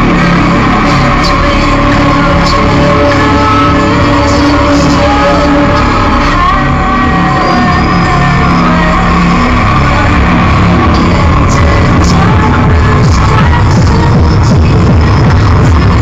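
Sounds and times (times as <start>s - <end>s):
hard techno music: 0.0s - 16.0s.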